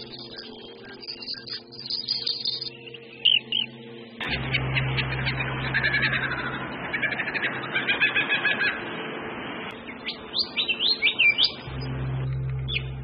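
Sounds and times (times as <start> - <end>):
bird chirps: 0.0 - 8.9, 9.7 - 13.0
bird whistled gliding notes: 0.0 - 13.0.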